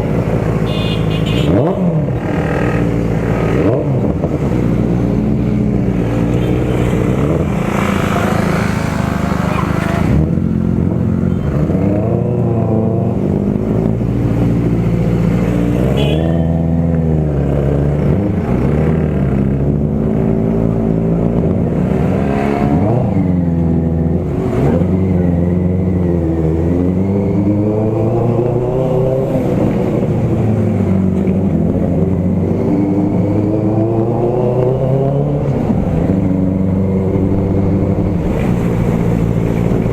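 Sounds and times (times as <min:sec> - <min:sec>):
motorcycle engines accelerating: 0:01.5 - 0:39.9.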